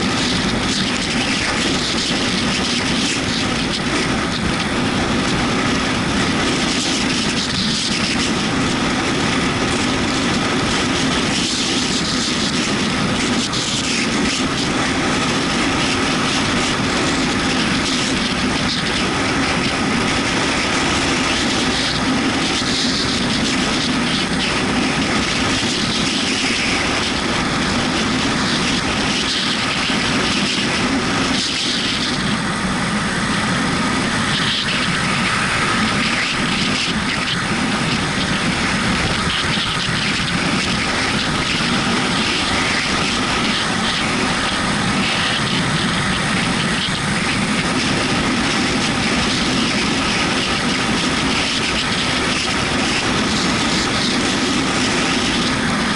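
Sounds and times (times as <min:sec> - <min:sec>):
wet road noise: 0:00.0 - 0:55.9
wind rushing: 0:00.0 - 0:55.9.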